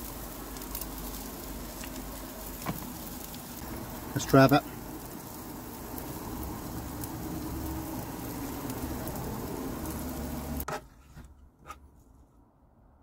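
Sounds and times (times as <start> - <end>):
mushrooms sizzling in a frying pan: 0.0 - 10.7.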